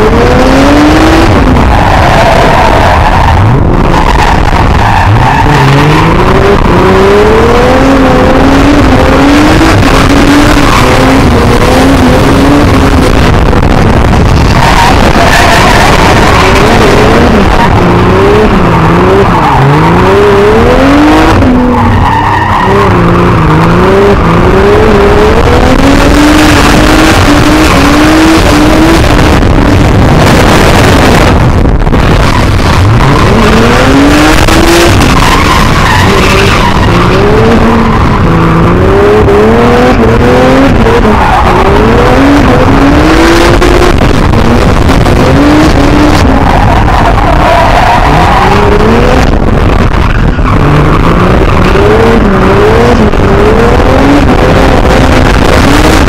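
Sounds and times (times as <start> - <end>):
car engine revving at full throttle: 0.0 - 56.0
tyres skidding and squealing: 0.0 - 56.0.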